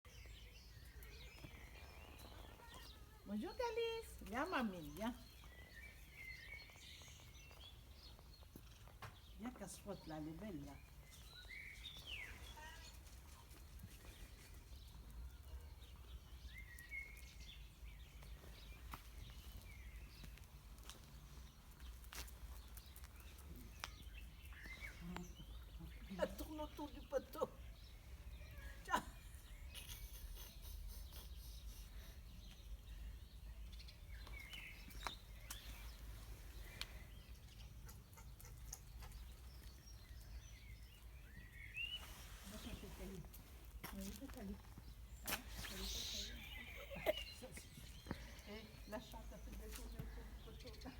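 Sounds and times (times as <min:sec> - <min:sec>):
bird chirps: 0:00.1 - 0:09.4, 0:10.8 - 0:20.4, 0:23.0 - 0:43.3, 0:44.4 - 0:50.9.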